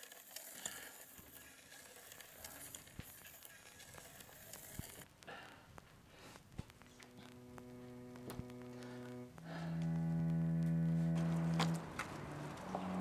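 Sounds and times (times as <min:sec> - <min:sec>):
vinyl record crackle and hiss: 0:00.0 - 0:13.0.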